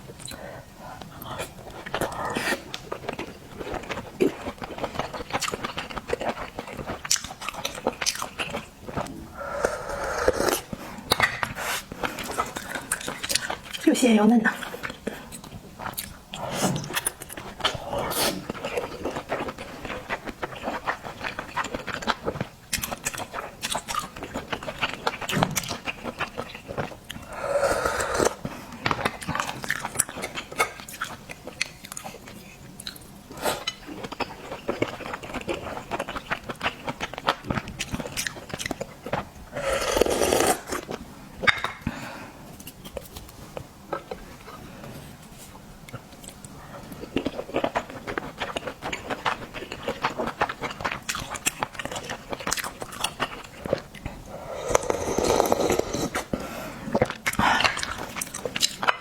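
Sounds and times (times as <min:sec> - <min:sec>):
person chewing wetly: 0:01.0 - 0:13.8, 0:14.6 - 0:41.8, 0:45.8 - 0:59.0.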